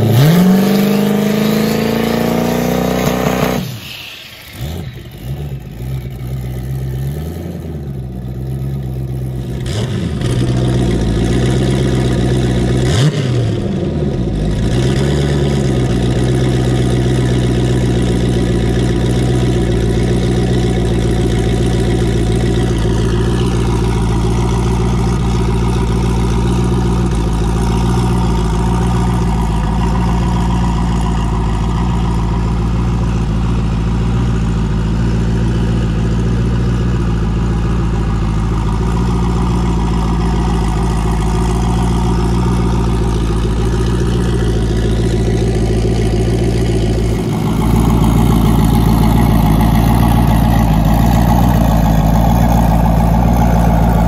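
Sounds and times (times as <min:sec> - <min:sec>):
engine idling through exhaust: 0:00.0 - 0:54.0
engine throttle blips: 0:00.0 - 0:54.0.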